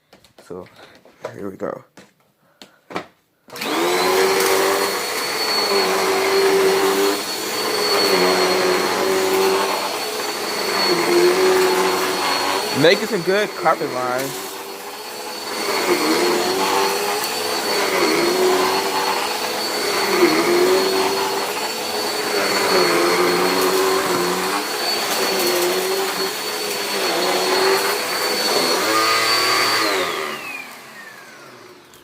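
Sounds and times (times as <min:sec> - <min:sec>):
vacuum cleaner running over carpet: 0:03.5 - 0:32.0
vacuum motor spinning down: 0:03.5 - 0:32.0.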